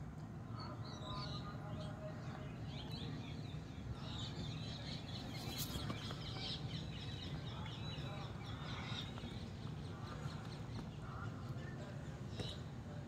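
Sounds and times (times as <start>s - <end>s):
steady low hum: 0.0s - 13.0s
small birds chirping: 0.5s - 13.0s.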